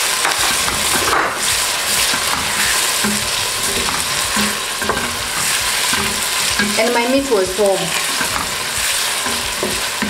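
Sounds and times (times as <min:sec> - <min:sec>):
onions and meat sizzling in oil: 0:00.0 - 0:10.0
wooden spoon stirring pot: 0:00.0 - 0:10.0.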